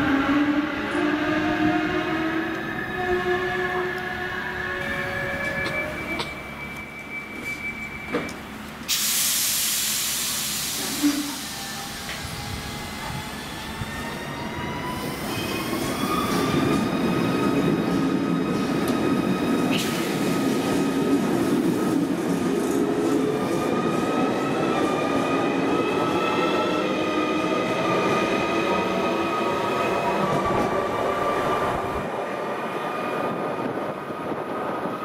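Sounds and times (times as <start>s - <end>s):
train coaches rumbling: 0.0s - 35.0s.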